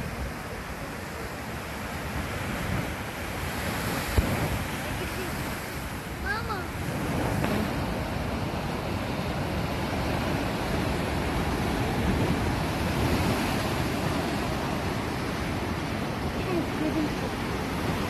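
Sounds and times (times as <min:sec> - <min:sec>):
waves washing on shore: 0:00.0 - 0:18.0.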